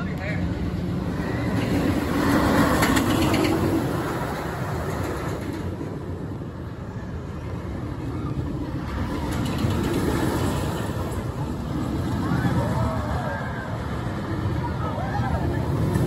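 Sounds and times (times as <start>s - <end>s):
roller coaster train rumbling: 0.0s - 16.0s.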